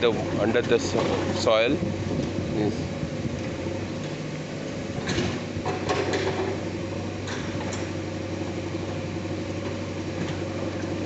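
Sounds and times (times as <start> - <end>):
bulldozer engine running: 0.0 - 11.0.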